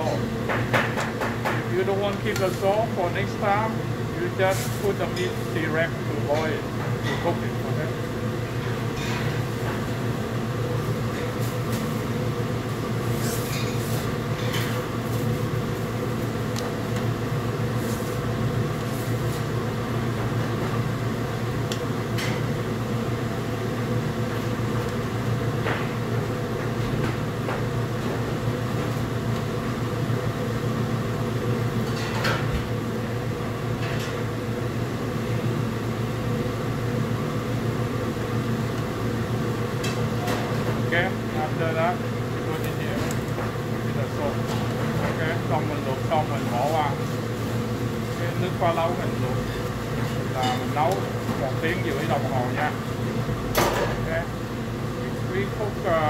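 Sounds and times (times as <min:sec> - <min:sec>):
gas stove drone: 0:00.0 - 0:56.0.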